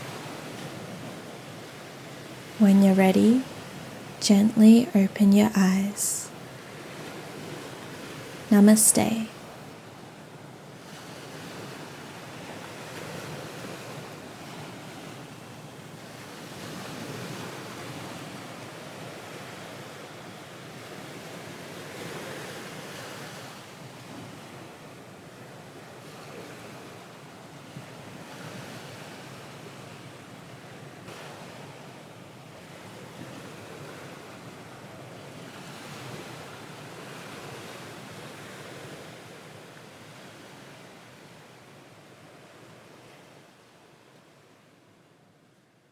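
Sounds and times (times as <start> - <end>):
ocean waves washing onto shore: 0.0 - 4.9, 5.8 - 44.8.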